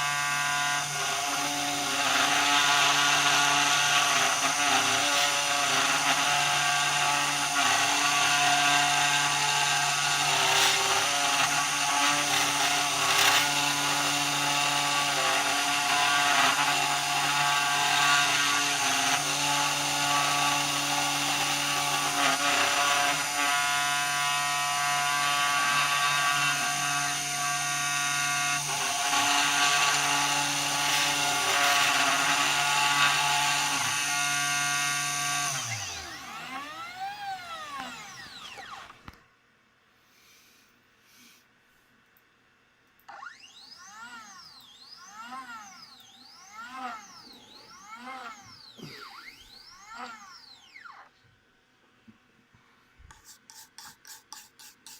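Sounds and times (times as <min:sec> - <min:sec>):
machine motors whining: 0:00.0 - 0:39.2, 0:43.0 - 0:51.3.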